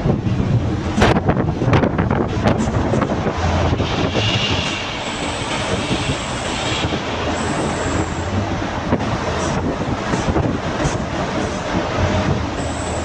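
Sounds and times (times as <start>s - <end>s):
echoing tunnel traffic: 0.0s - 13.0s
tyre and road roar: 0.0s - 13.0s
vehicle engine drone: 0.0s - 13.0s.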